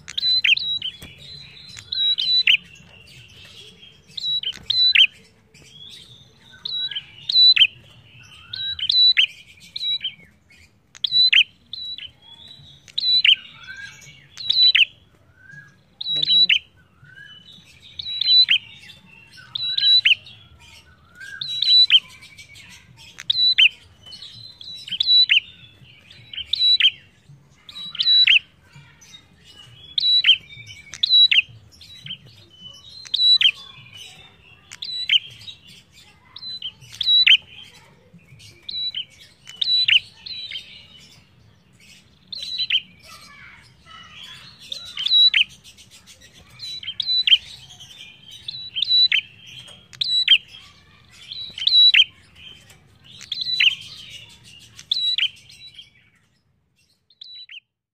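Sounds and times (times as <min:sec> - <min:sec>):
bird chattering: 0:00.0 - 0:10.2, 0:15.9 - 0:16.8, 0:17.6 - 0:41.2, 0:42.0 - 0:55.8.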